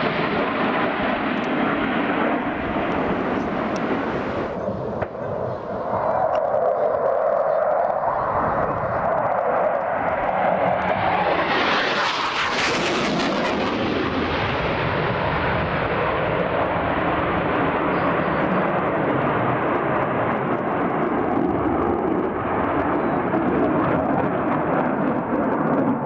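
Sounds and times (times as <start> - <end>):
jet fighter engines rushing: 0.0 - 26.0.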